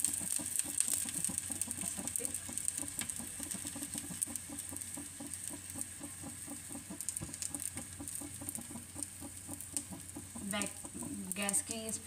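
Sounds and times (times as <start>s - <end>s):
frying sizzle with crackling: 0.0s - 12.0s.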